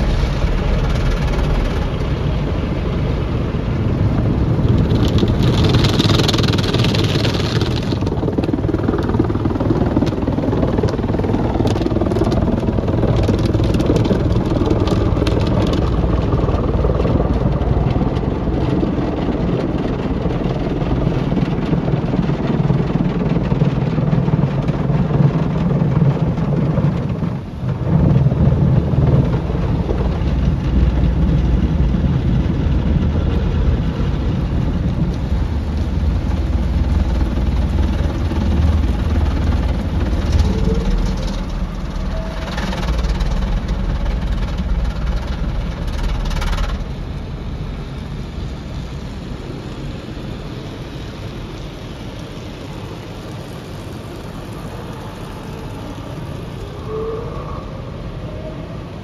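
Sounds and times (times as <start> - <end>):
car wash brushes and sprays rumbling: 0.0 - 59.0.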